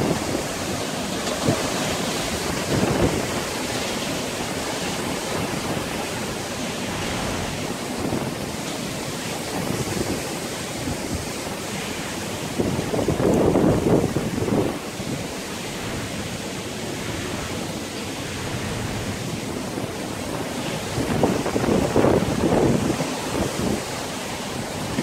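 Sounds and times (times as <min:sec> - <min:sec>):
wind buffeting microphone: 0:00.0 - 0:25.0
wind gusting through trees: 0:00.0 - 0:25.0.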